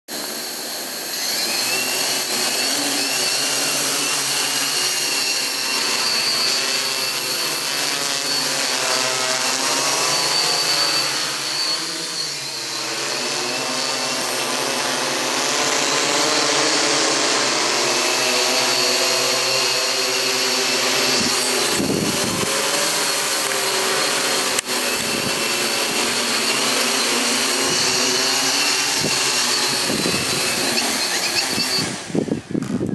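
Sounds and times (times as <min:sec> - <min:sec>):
drone motors whirring: 0:00.1 - 0:32.9.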